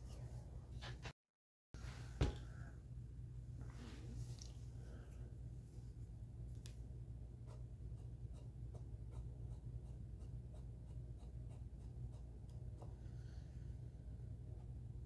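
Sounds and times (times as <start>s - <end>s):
steady low hum: 1.8s - 15.0s.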